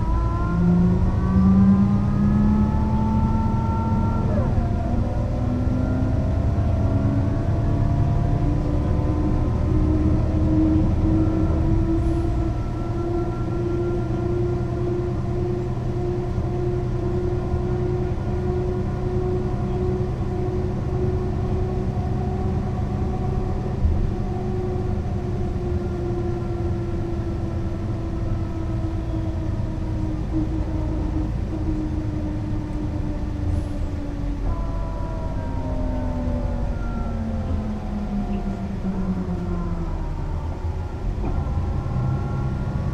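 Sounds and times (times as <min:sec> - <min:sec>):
bus engine drone: 0:00.0 - 0:42.9
road rumble: 0:00.0 - 0:42.9.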